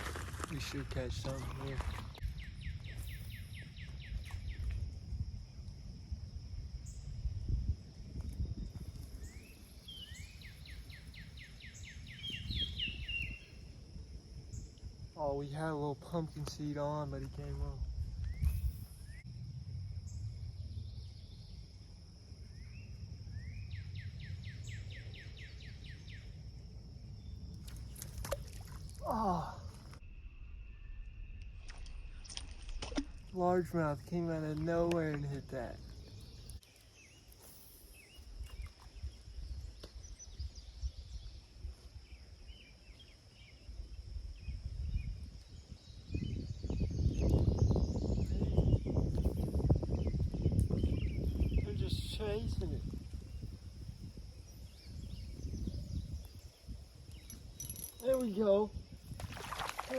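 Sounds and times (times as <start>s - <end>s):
songbird chirping: 0.0s - 5.8s, 6.8s - 59.9s
high insect drone: 0.0s - 32.5s, 33.2s - 59.9s.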